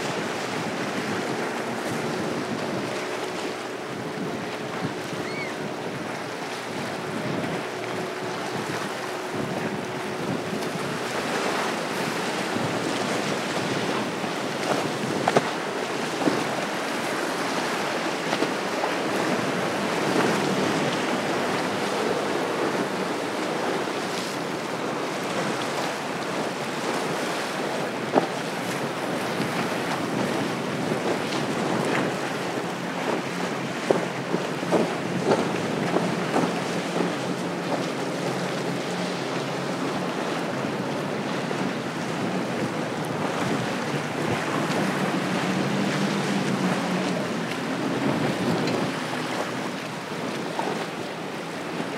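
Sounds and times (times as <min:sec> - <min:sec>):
outboard boat engines passing: 0:00.0 - 0:51.9
rushing water: 0:00.0 - 0:51.9
wind buffeting microphone: 0:00.0 - 0:51.9.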